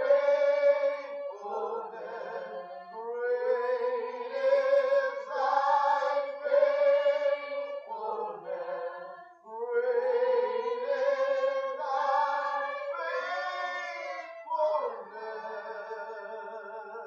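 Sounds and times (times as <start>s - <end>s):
group singing long notes: 0.0s - 17.0s.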